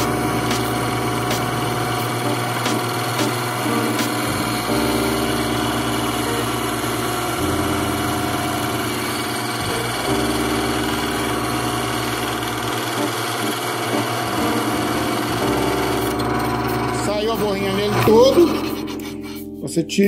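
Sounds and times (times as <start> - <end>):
grinding machine humming: 0.0 - 19.3.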